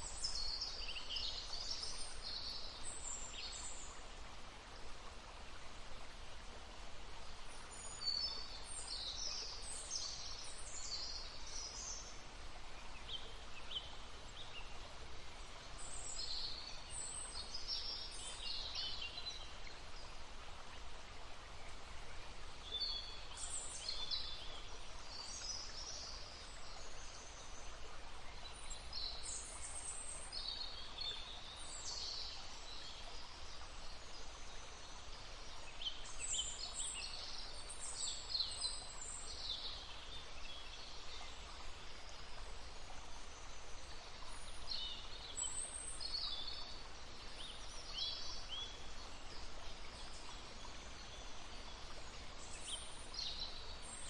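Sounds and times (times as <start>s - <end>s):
babbling stream: 0.0s - 54.0s
songbirds singing: 7.2s - 54.0s.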